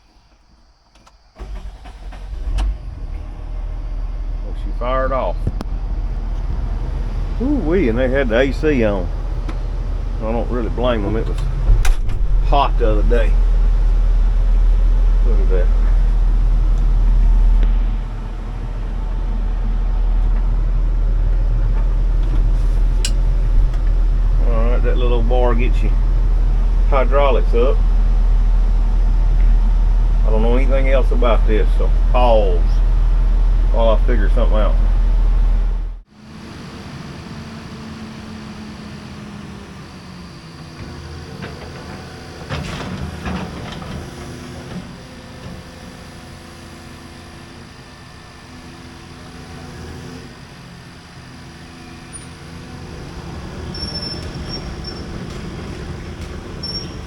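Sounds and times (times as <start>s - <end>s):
diesel engine idling: 0.7s - 57.0s.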